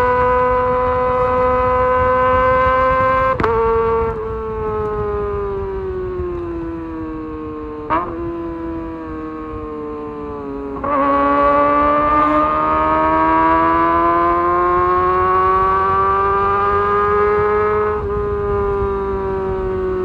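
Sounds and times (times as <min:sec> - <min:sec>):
motorcycle engine whining: 0:00.0 - 0:20.0.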